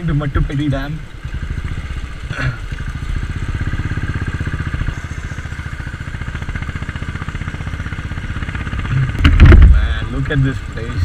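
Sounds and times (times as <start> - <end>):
motorcycle engine thumping: 0.4 - 11.0.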